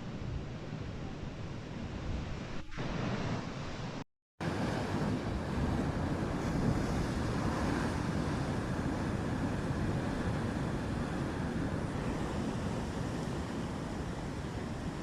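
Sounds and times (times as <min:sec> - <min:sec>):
wind buffeting microphone: 0:00.0 - 0:15.0
waves rushing: 0:02.0 - 0:15.0.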